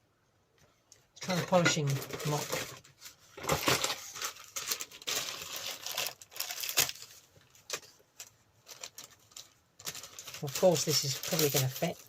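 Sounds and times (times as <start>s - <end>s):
crinkling rustles: 0.9s - 12.0s.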